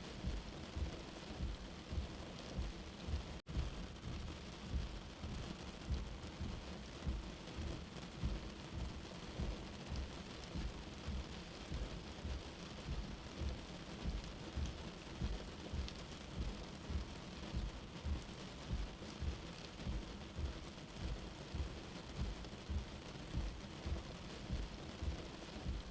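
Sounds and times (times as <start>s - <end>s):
steady rain: 0.0s - 25.9s
low dull thuds: 0.2s - 25.9s.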